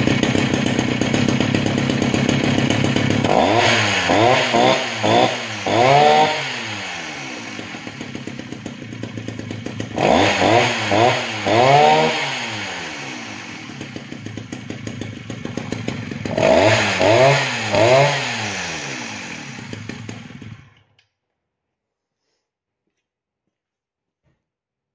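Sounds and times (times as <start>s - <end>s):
chainsaw revving and idling: 0.0s - 20.8s.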